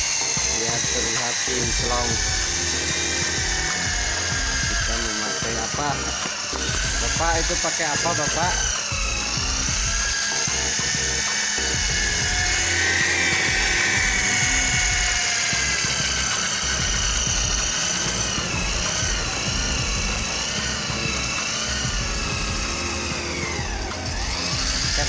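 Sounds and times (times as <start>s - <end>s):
polishing machine motor whine: 0.0s - 25.0s.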